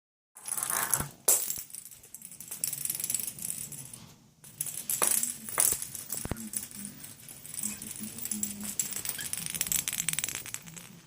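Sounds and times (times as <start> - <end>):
metallic jingling and clinking: 1.3 - 11.0.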